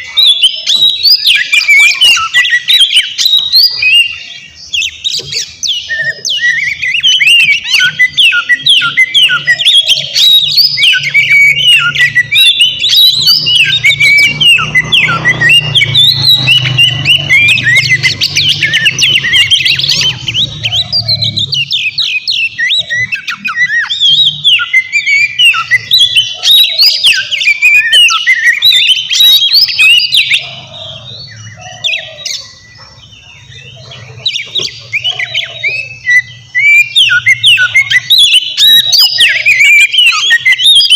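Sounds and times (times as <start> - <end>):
bird singing whistles and trills: 0.0 - 40.9.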